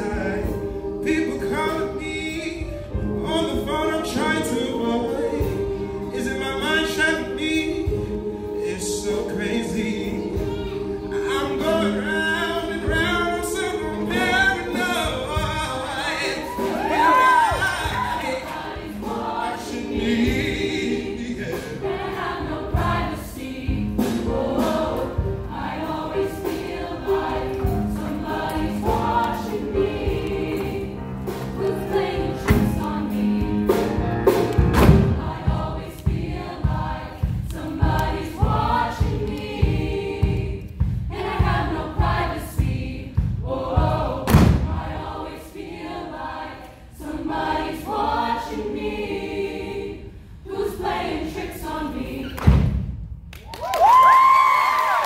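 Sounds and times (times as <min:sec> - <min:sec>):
mixed choir singing: 0:00.0 - 0:52.8.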